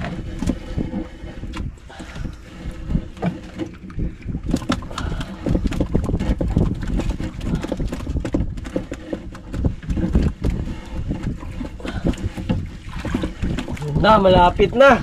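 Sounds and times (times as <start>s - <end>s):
water slapping against boat hull: 0.0s - 15.0s
wind rumble on microphone: 0.0s - 15.0s.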